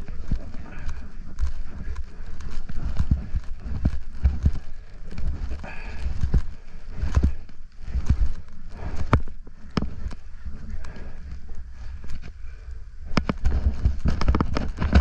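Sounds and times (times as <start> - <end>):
crunchy crackles: 0.0 - 15.0
running footsteps: 0.0 - 15.0.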